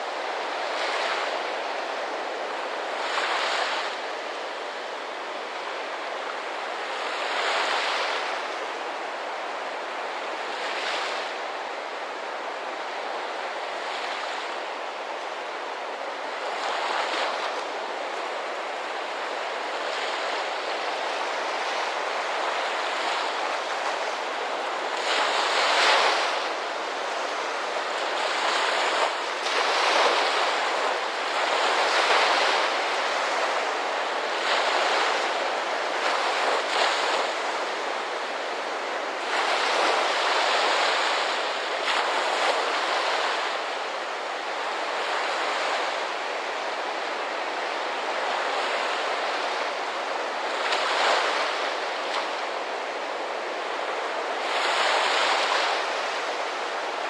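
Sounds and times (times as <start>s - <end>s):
steady rush of water: 0.0s - 57.0s
waves breaking: 0.0s - 57.0s.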